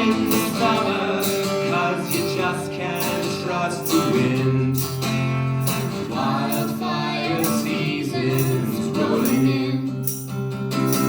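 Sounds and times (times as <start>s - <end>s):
voices singing in harmony: 0.0s - 5.0s, 5.6s - 10.2s
strummed acoustic guitar: 0.0s - 11.0s.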